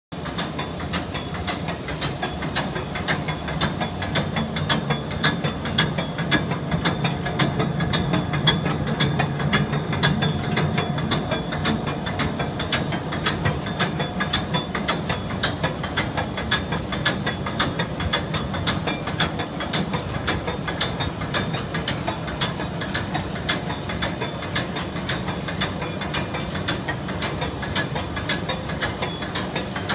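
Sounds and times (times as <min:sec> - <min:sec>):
low machine hum: 0:00.2 - 0:29.9
bottle filler machine clattering: 0:02.2 - 0:29.9.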